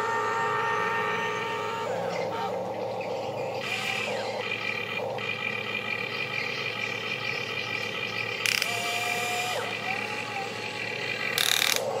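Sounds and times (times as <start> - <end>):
toy excavator motors whining: 0.0 - 12.0.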